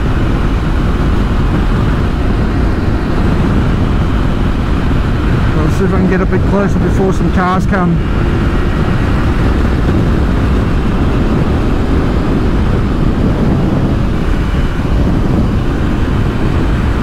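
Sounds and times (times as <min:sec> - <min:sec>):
road noise: 0:00.0 - 0:17.0
wind rushing: 0:00.0 - 0:17.0.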